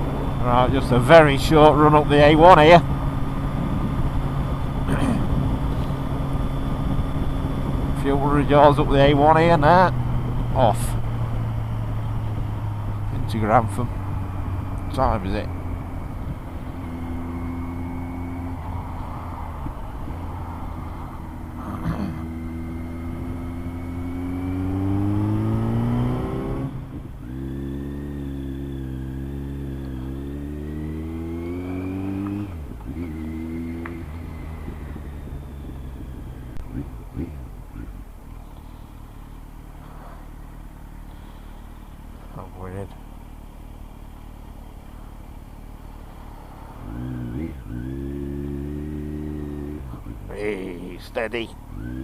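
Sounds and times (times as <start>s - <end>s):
motorcycle engine accelerating: 0.0s - 52.0s
road noise: 0.0s - 52.0s.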